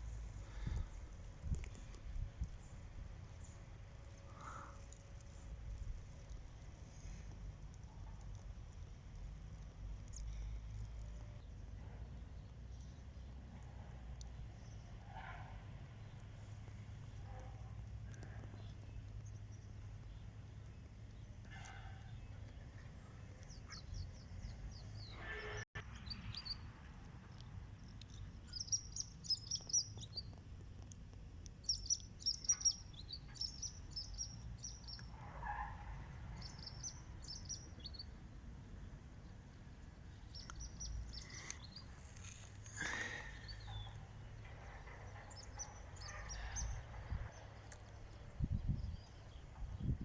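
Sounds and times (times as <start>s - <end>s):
low outdoor rumble: 0.0s - 50.0s
small birds chirping: 0.0s - 50.0s.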